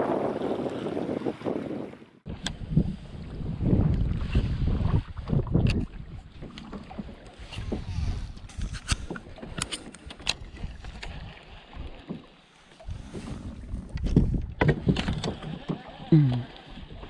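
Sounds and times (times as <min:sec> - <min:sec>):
wind rumbling on microphone: 0:00.0 - 0:12.0, 0:12.8 - 0:17.0
waves slapping kayak hull: 0:00.0 - 0:17.0.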